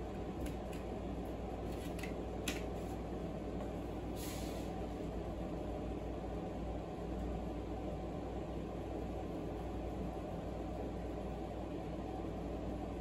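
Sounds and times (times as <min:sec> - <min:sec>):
air conditioner and fan drone: 0:00.0 - 0:13.0.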